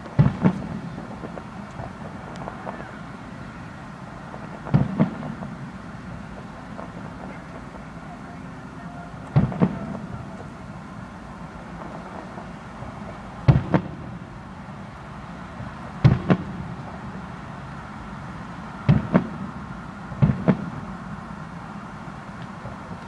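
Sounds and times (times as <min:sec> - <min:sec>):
fireworks double bangs: 0:00.0 - 0:23.0
steady background noise: 0:00.0 - 0:23.0.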